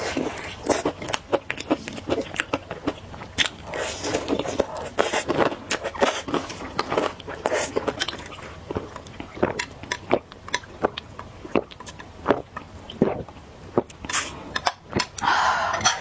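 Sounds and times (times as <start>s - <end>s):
chewing with wet mouth clicks: 0.0s - 15.2s.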